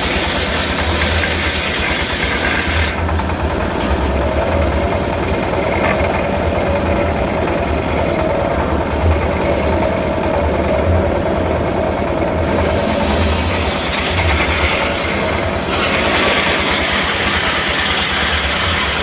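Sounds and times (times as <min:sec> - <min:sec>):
sawmill engine throbbing: 0:00.0 - 0:19.0.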